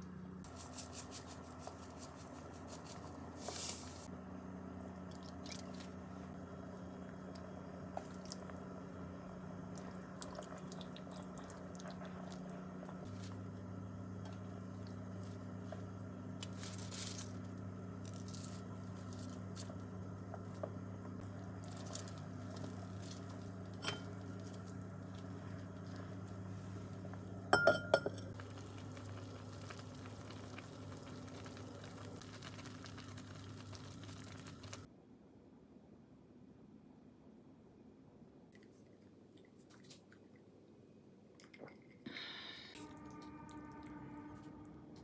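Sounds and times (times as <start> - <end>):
steady low hum: 0.0 - 35.5, 42.1 - 45.0.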